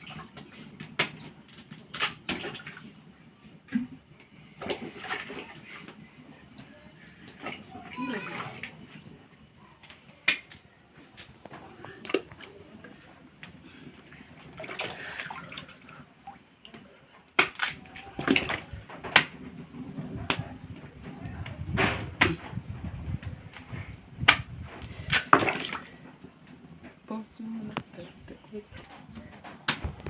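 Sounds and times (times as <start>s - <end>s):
water sloshing in a container: 2.1s - 10.2s, 11.6s - 23.9s, 24.5s - 28.7s.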